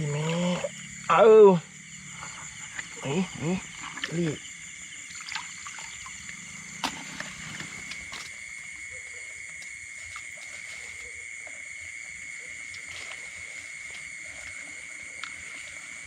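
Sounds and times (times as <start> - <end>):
night insects trilling: 0.0 - 16.0.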